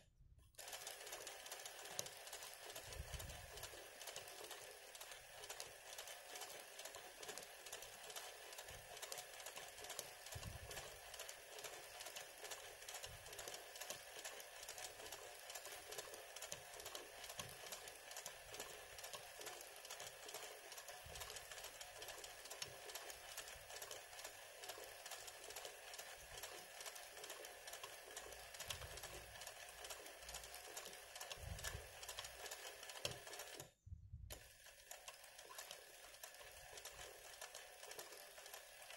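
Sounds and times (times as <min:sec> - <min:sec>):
sewing machine stitching: 0:00.5 - 0:38.9.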